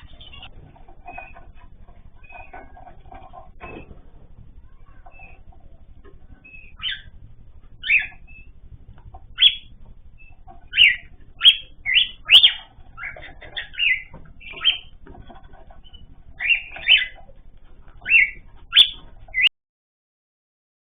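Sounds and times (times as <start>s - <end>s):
birds chirping: 0.0s - 19.5s
low steady hum: 0.0s - 19.5s.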